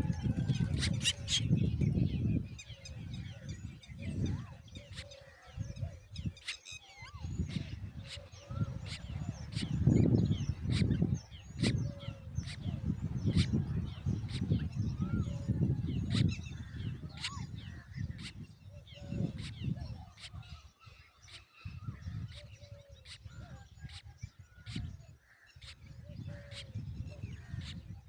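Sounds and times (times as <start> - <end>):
birds chirping: 0.0 - 24.1.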